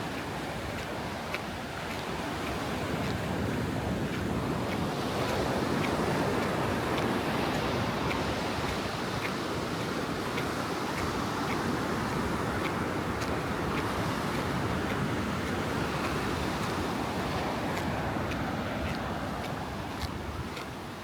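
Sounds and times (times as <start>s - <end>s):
faint light ticks: 0.0s - 3.4s, 4.1s - 20.8s
ocean surf breaking: 0.0s - 20.7s.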